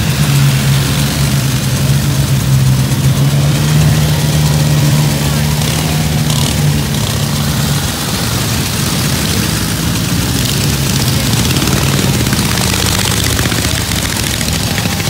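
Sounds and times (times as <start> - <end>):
old motorcycle engines running: 0.0 - 15.0.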